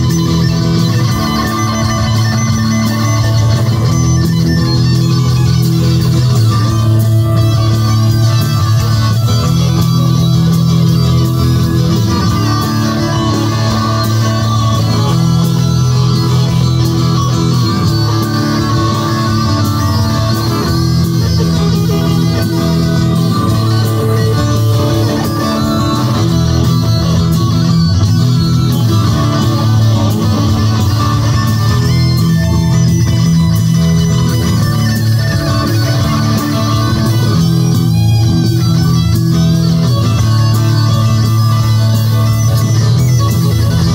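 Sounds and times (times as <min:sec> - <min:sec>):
electric guitars: 0:00.0 - 0:43.9
live rock band playing: 0:00.0 - 0:43.9.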